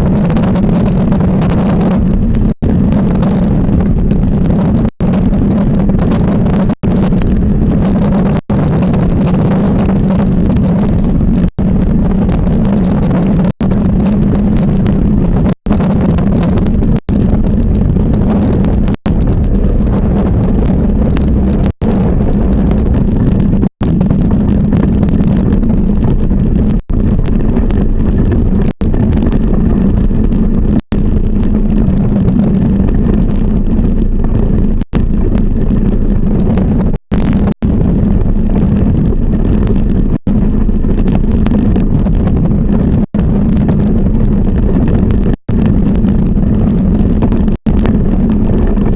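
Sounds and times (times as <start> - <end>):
iceboat runners rumbling on ice: 0.0 - 48.9
rushing noise: 0.0 - 48.9.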